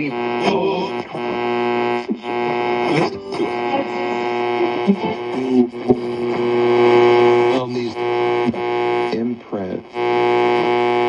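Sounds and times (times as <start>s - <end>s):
radio static hum: 0.0s - 11.0s
radio station fragments: 0.0s - 11.0s.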